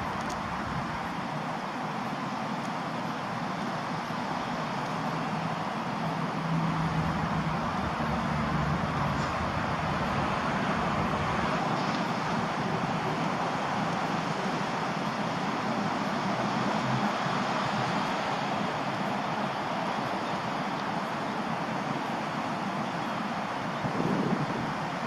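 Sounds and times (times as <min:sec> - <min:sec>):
vehicle noise: 0:00.0 - 0:25.0.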